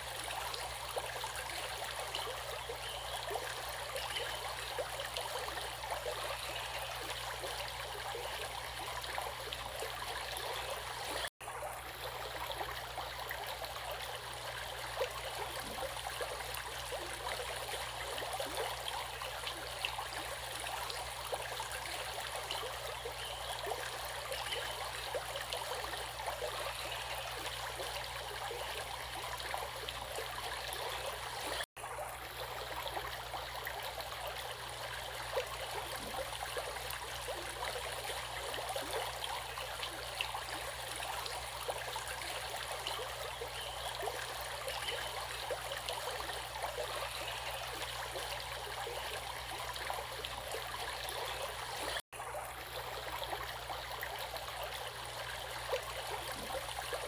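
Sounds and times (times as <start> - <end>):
stream water rushing and gurgling: 0.0 - 57.0.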